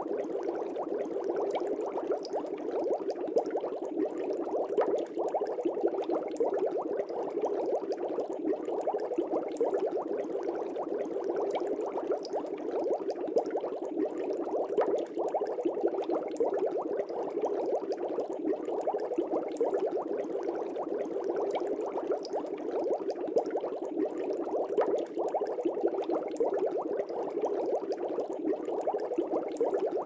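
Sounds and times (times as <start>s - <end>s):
air bubbles in fish tank: 0.0s - 30.0s.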